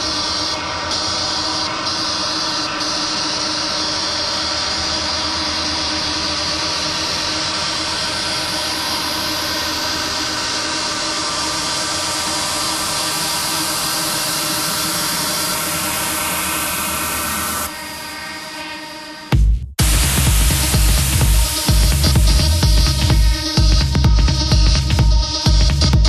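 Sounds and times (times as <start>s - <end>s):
droning held tones: 0.0s - 23.6s.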